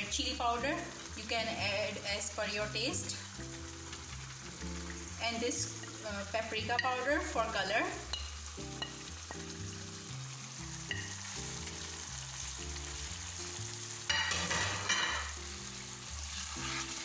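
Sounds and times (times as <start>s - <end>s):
curry sizzling in a pan: 0.0s - 17.0s
soft background music: 0.0s - 17.0s.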